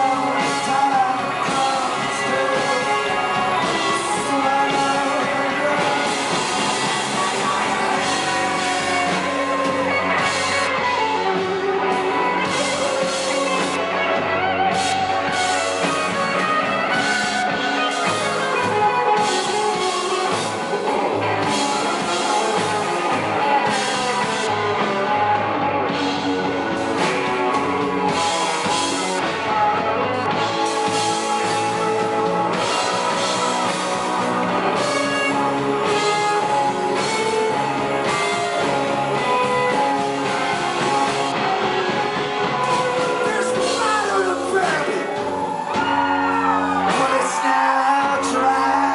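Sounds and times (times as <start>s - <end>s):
bass guitar: 0.0s - 48.9s
drum kit: 0.0s - 48.9s
electric guitar: 0.0s - 48.9s.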